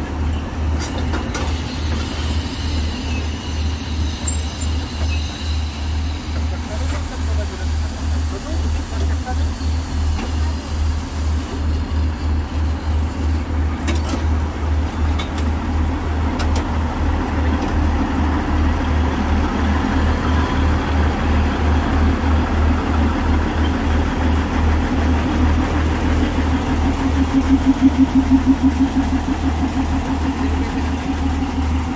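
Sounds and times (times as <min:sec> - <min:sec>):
diesel locomotive engine idling: 0:00.0 - 0:31.9.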